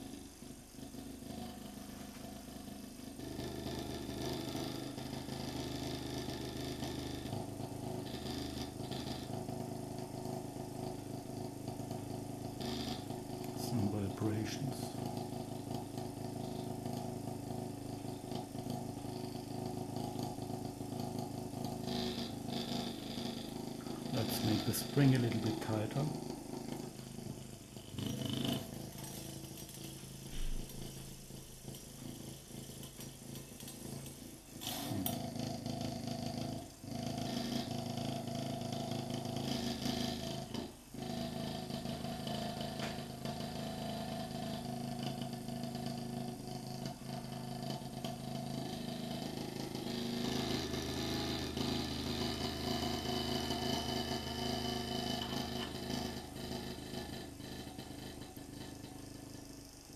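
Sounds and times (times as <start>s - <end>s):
piston engine humming: 0.0s - 59.9s.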